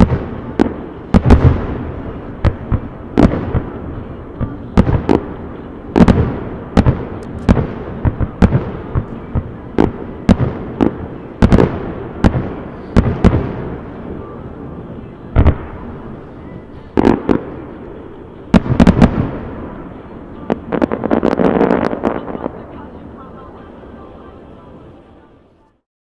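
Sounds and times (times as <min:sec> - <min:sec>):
fireworks bangs with echo: 0:00.0 - 0:24.1.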